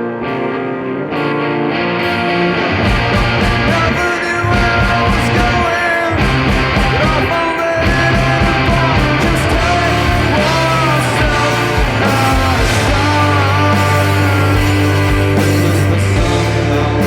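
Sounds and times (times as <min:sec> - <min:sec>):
electric guitar: 0:00.0 - 0:17.0
rock band playing live: 0:00.0 - 0:17.0
bass line: 0:02.0 - 0:17.0.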